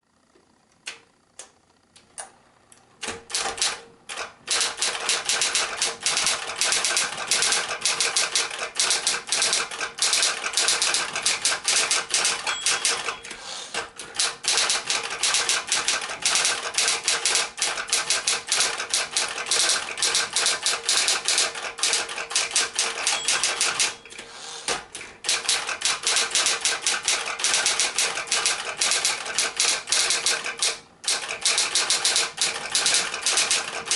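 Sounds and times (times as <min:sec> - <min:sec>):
electric typewriter typing: 0:03.0 - 0:33.9
typewriter motor hum: 0:03.0 - 0:33.9.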